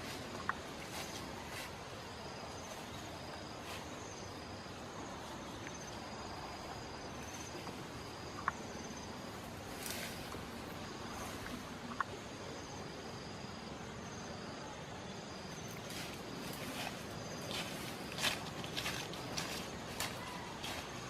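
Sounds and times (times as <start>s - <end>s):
insects chirping in trills: 0.0s - 21.0s
steady outdoor hiss: 0.0s - 21.0s.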